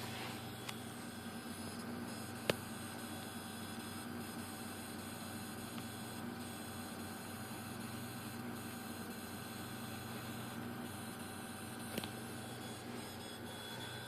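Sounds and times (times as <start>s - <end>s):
computer hum and whine: 0.0s - 14.0s.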